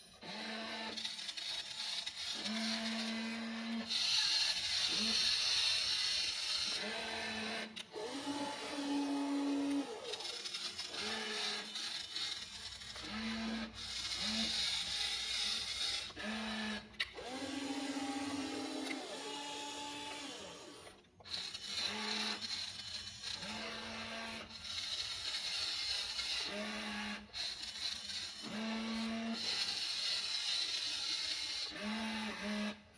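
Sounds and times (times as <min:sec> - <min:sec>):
small electric motors whining: 0:00.0 - 0:32.9
steady gear whirr: 0:00.0 - 0:32.9.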